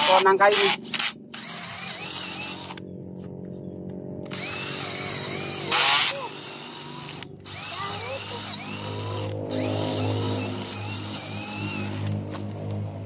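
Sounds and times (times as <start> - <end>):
cordless drill boring into wood: 0.0 - 2.8, 4.3 - 12.1.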